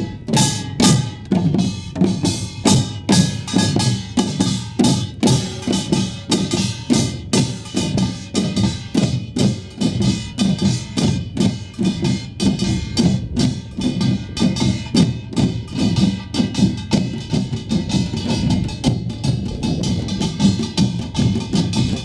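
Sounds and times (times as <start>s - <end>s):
barrel drums beating: 0.0s - 22.0s
small gongs clanging: 0.0s - 22.0s.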